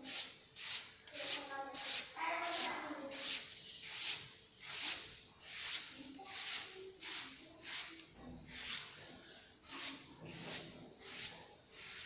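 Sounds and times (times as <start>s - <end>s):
painting tool swishing on wall: 0.0s - 12.0s.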